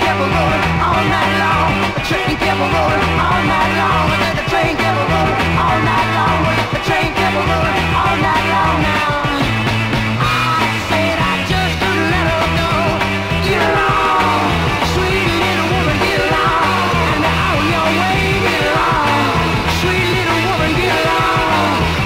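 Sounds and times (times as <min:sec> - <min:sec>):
garage rock song from vinyl: 0:00.0 - 0:22.0.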